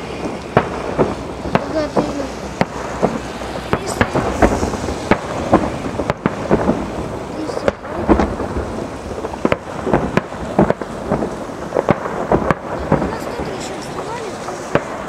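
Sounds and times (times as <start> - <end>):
firework bangs: 0.0 - 15.0
firework rumble and crackle: 0.0 - 15.0.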